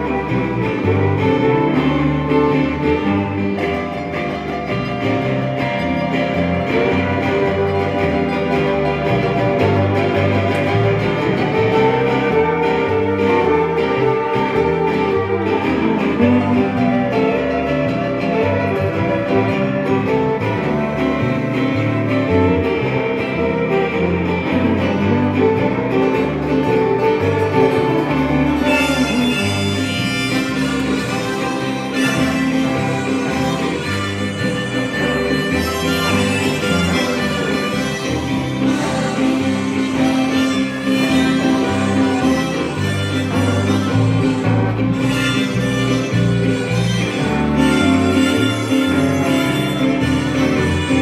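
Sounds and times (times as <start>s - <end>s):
electric guitar: 0.0s - 51.0s
fiddle melody: 0.0s - 51.0s
low bass line: 0.0s - 51.0s
strummed acoustic guitar: 0.0s - 51.0s.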